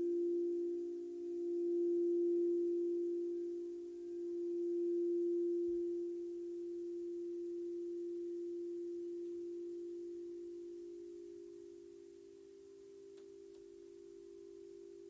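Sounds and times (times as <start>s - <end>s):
steady ringing tone: 0.0s - 15.0s.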